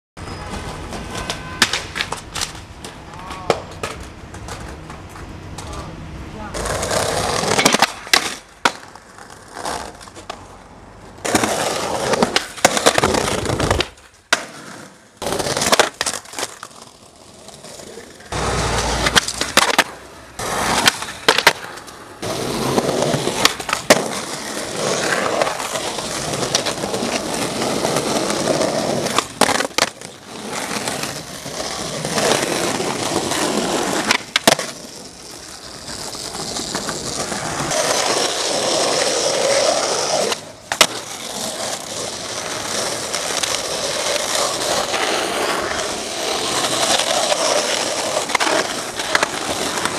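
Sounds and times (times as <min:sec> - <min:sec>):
skateboard wheels rolling on concrete: 0:00.2 - 0:49.9
skateboard clacking on ground: 0:00.3 - 0:05.9, 0:06.5 - 0:49.9.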